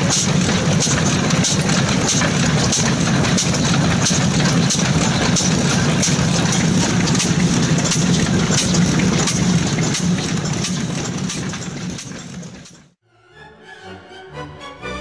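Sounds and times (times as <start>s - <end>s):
stationary engine running slowly: 0.0s - 13.0s.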